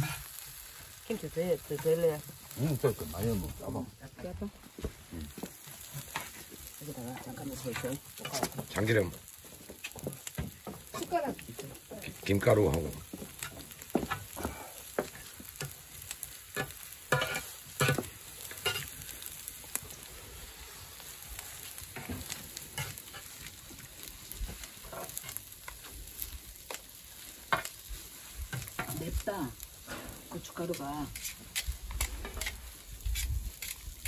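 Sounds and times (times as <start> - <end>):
rice sizzling on griddle: 0.0 - 34.0.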